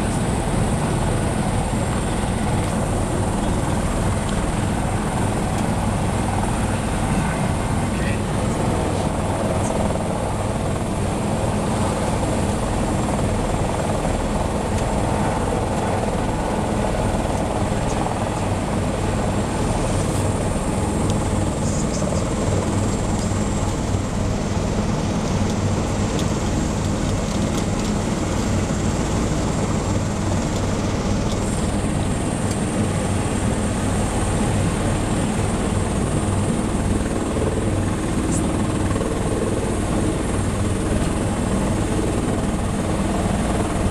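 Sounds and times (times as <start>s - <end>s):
helicopter engine and rotor: 0.0s - 43.9s.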